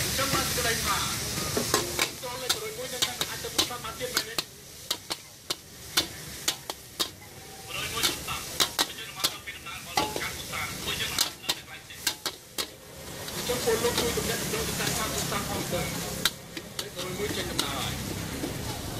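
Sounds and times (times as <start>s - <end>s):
food sizzling: 0.0s - 18.9s
metal spatula scraping a wok: 1.2s - 18.9s.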